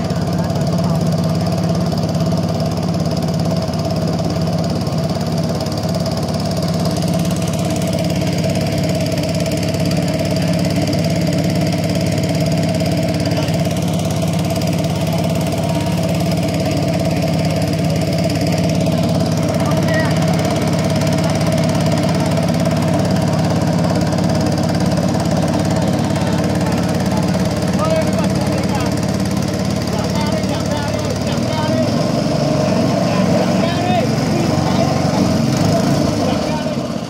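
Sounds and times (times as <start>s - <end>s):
small boat engine running: 0.0s - 37.0s.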